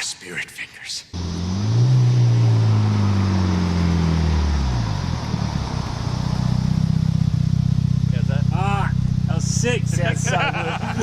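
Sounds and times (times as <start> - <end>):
car engine revs settling to idle: 1.2 - 11.0.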